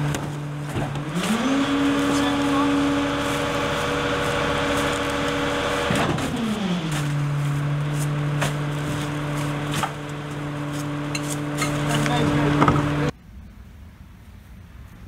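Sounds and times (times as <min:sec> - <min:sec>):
garbage truck engine running: 0:00.0 - 0:13.1.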